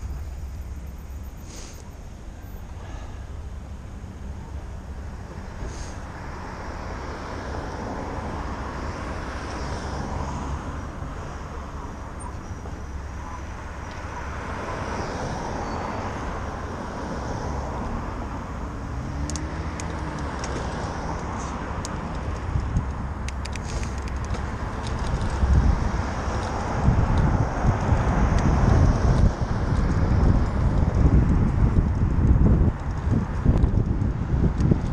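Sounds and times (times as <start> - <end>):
steady low rumble: 0.0 - 9.6, 10.4 - 34.9
cars passing: 0.0 - 34.9.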